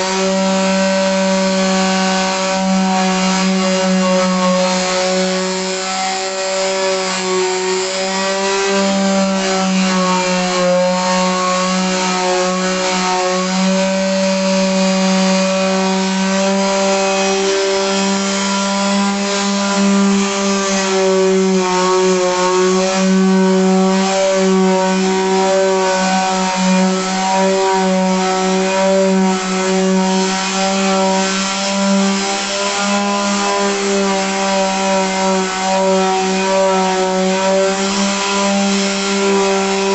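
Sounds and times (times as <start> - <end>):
electric sander on wood: 0.0 - 39.9.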